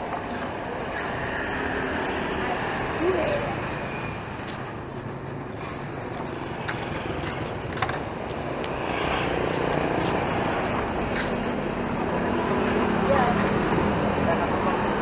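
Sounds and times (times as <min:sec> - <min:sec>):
motorbike engines passing: 0:00.0 - 0:15.0.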